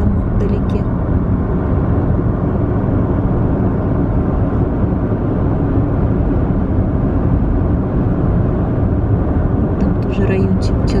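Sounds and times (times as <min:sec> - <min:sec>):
road and tyre noise inside car: 0:00.0 - 0:11.0.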